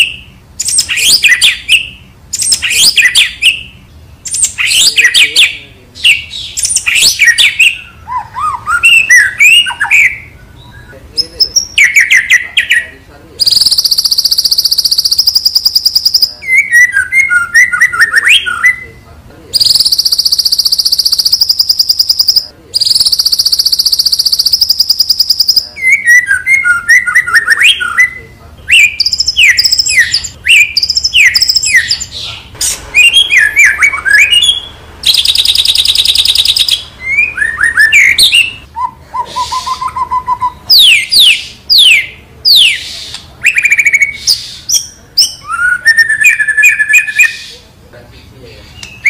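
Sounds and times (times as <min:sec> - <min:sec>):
bird singing trills and whistles: 0:00.0 - 0:47.6, 0:48.6 - 0:49.0.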